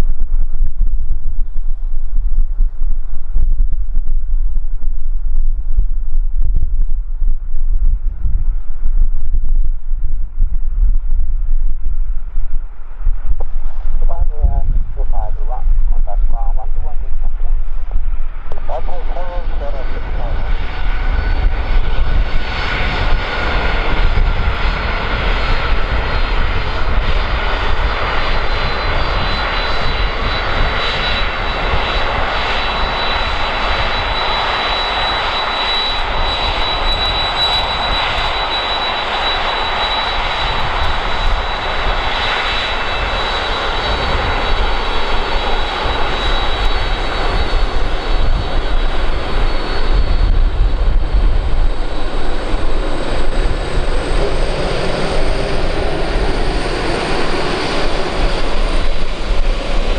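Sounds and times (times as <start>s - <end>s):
airplane engines running: 0.0s - 59.9s.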